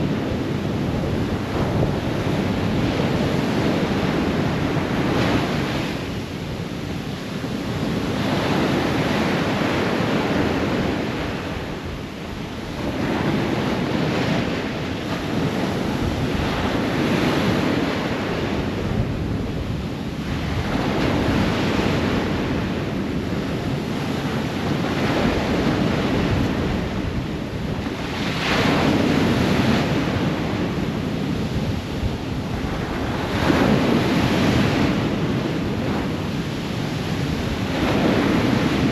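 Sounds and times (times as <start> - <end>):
ocean surf breaking on shore: 0.0 - 38.9.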